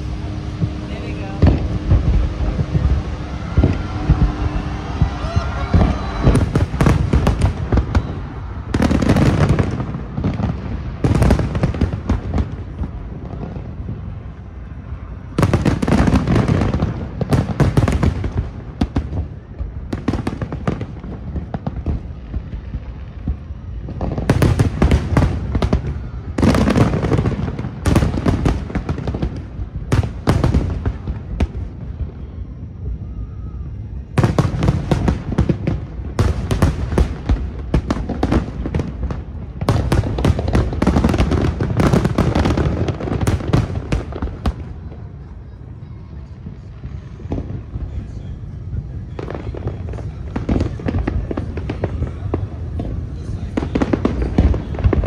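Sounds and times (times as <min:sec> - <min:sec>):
fireworks bursting with sharp bangs: 0:00.0 - 0:55.0.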